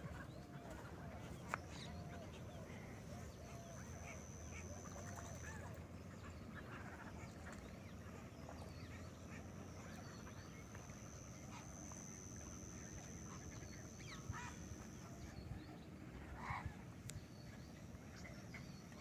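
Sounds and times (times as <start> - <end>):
distant waterbirds calling: 0.0 - 19.0
steady high whine: 0.0 - 19.0.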